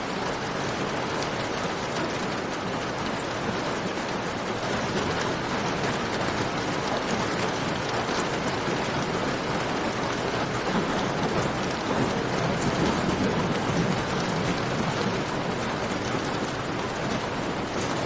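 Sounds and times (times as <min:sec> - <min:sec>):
dense rainfall: 0:00.0 - 0:18.0.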